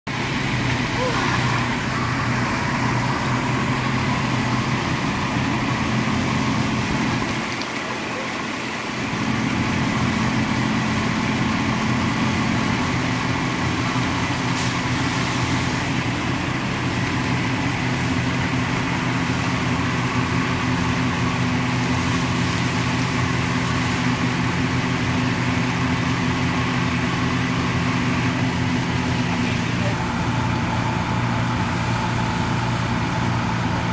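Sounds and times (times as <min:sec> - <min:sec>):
engine drone: 0:00.1 - 0:33.9.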